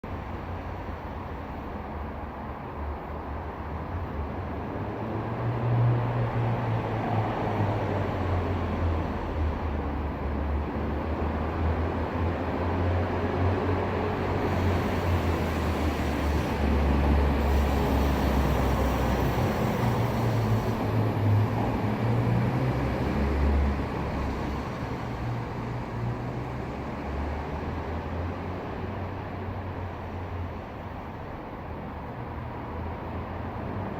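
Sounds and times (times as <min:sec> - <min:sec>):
road and engine rumble: 0:00.0 - 0:33.9.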